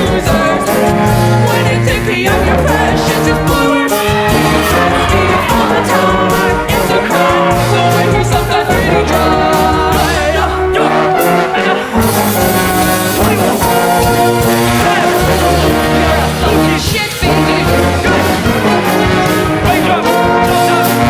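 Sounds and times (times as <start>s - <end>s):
brass instruments playing chords: 0.0s - 21.0s
held bass notes: 0.0s - 21.0s.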